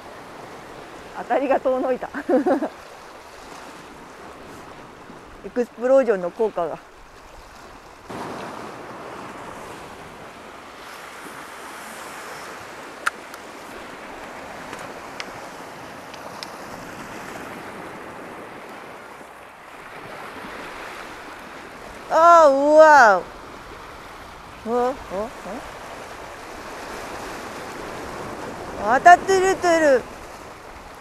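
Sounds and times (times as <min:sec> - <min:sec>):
waves washing against rocky shore: 0:00.0 - 0:31.0.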